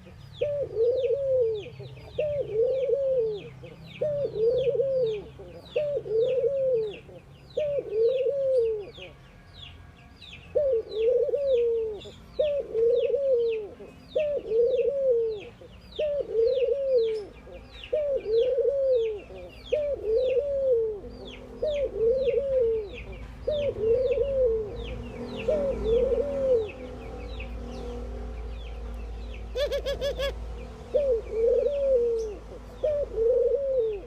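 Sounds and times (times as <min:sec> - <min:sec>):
doves cooing: 0:00.0 - 0:09.2, 0:10.5 - 0:28.1, 0:29.3 - 0:34.0
small bird chirping: 0:03.2 - 0:33.1.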